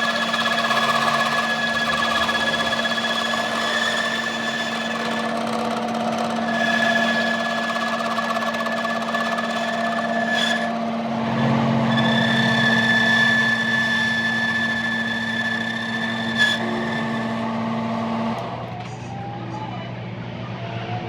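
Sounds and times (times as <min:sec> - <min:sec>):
machine whine: 0:00.0 - 0:21.0.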